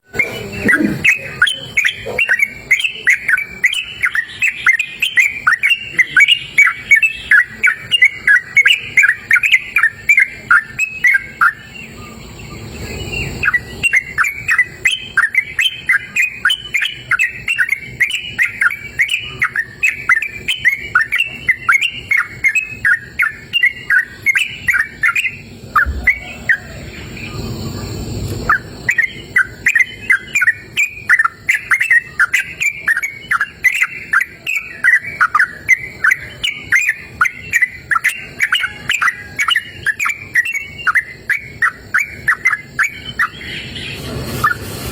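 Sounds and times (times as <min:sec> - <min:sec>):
bird chirping song: 0:00.0 - 0:44.9.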